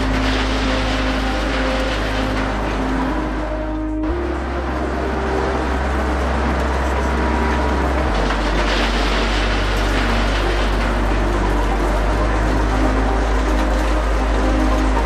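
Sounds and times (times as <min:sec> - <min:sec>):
heavy machinery rumbling: 0:00.0 - 0:15.0.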